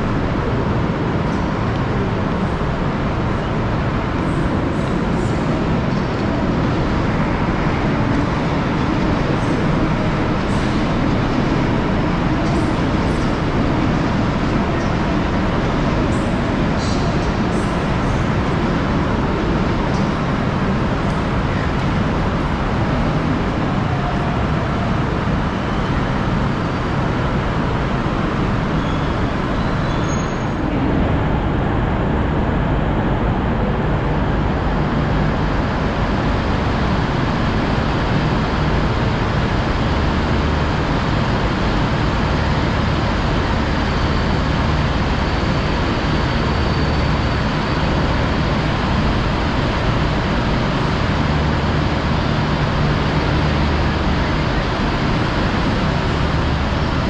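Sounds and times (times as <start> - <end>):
idling engines and traffic rumble: 0.0 - 57.0.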